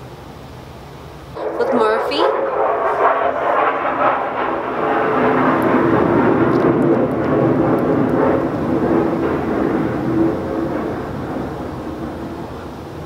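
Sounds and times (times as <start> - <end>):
airplane passing: 1.1 - 13.0.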